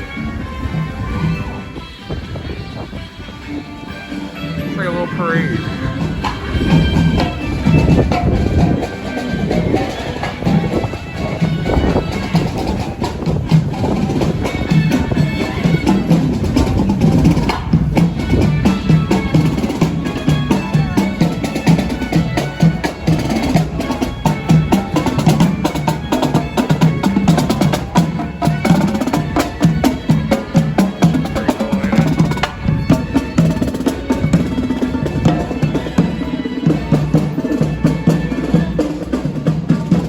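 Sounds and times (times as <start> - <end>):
parade music: 0.0 - 40.0
driving drum beat: 4.7 - 40.0.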